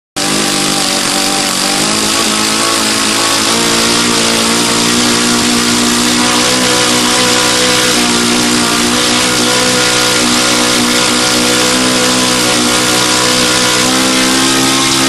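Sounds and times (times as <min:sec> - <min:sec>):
model engine buzzing: 0:00.2 - 0:15.0.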